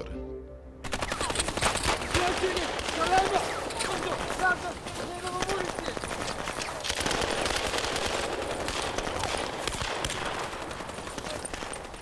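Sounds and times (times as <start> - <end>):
machine gun fire: 0.8 - 12.0.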